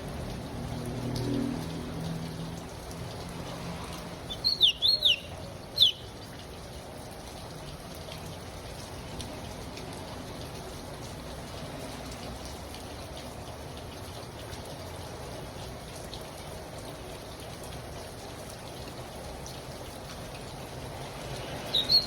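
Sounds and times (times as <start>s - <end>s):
rain falling: 0.0s - 22.0s
raindrops tapping: 0.0s - 22.0s.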